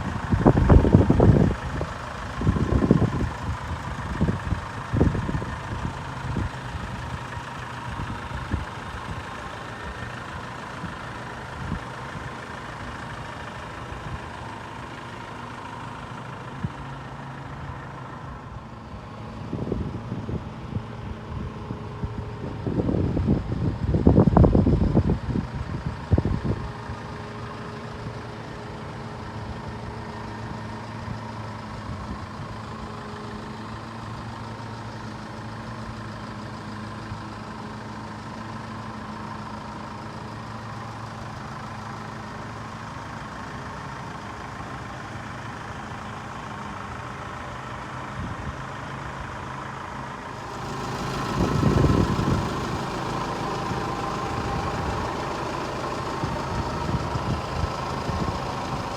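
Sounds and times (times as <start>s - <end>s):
diesel truck engine idling: 0.0s - 58.9s.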